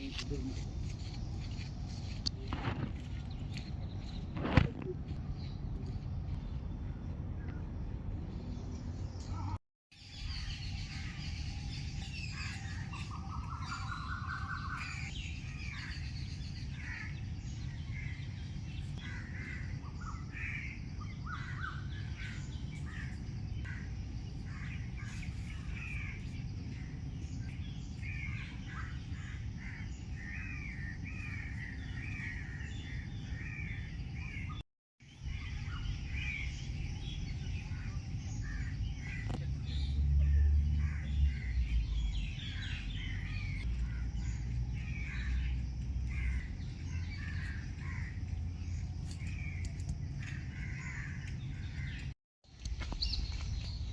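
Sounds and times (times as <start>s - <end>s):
wild birds calling: 0.0s - 53.9s.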